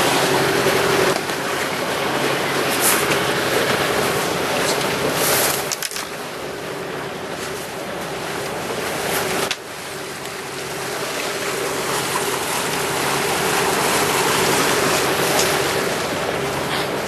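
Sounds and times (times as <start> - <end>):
motorboat engine humming: 0.0 - 17.0
wind and water rushing: 0.0 - 17.0.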